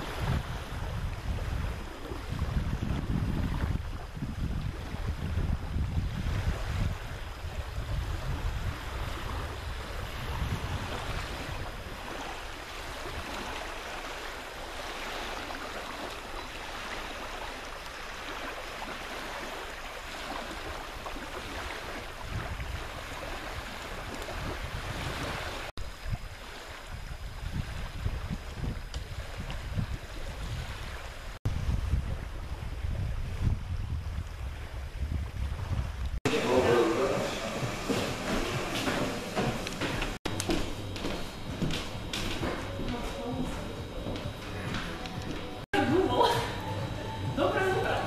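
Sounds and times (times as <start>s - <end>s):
wind buffeting microphone: 0.0s - 17.5s, 19.3s - 48.0s
small waves washing ashore: 0.0s - 48.0s.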